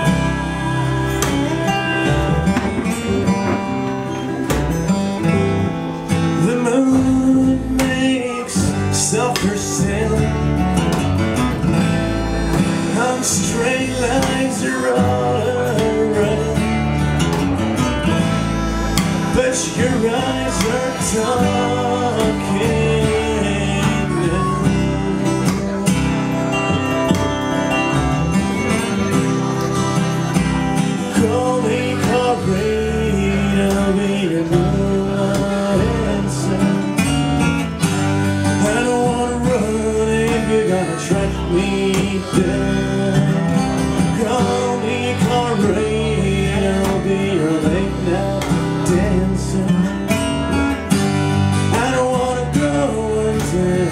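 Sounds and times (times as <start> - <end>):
harmonica melody: 0.0 - 53.9
strummed acoustic guitar: 0.0 - 53.9
walking double bass: 0.0 - 53.9.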